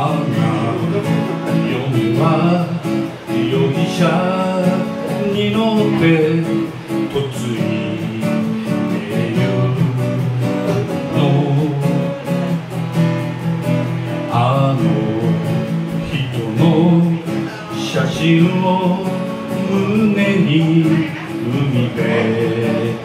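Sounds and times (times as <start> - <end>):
acoustic guitar strumming: 0.0 - 23.0
man singing folk song: 0.0 - 23.0.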